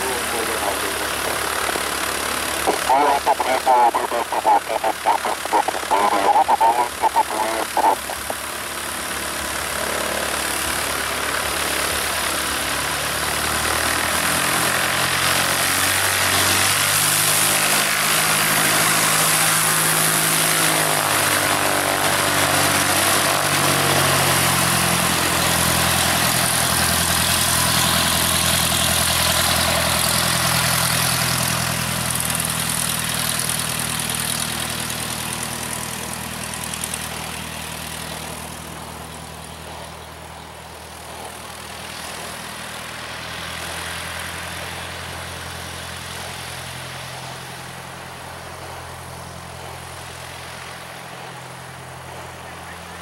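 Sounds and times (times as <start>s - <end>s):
light aircraft engine and propeller: 0.0s - 53.0s.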